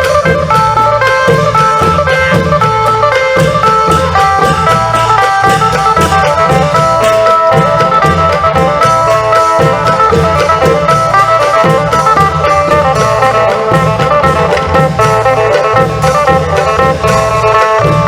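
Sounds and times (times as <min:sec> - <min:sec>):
long drums beating: 0:00.0 - 0:18.0
plucked lute melody: 0:00.0 - 0:18.0.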